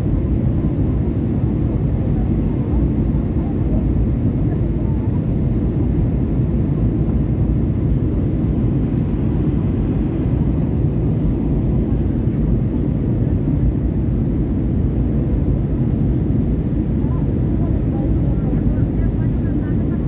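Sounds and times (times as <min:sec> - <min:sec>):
jet engine cabin drone: 0:00.0 - 0:20.0.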